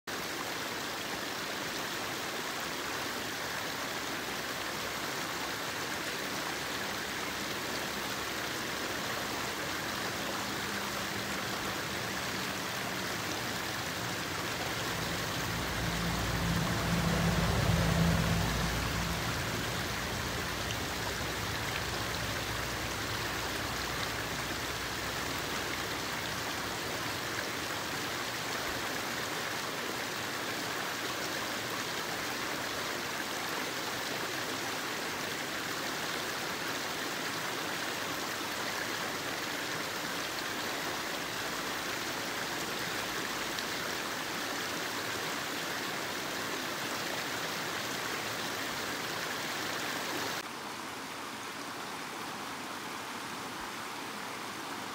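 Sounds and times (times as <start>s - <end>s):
stream running over stones: 0.1s - 54.9s.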